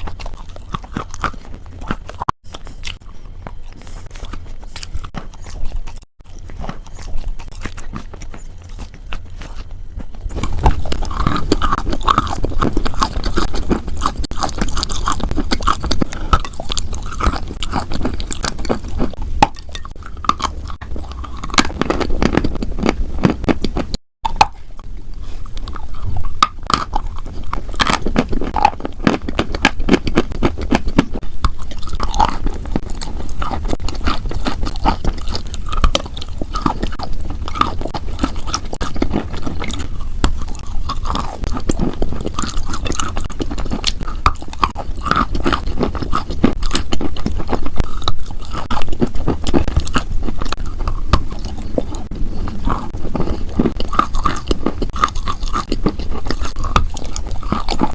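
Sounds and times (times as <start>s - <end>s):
crunching and chewing: 0.0s - 57.9s.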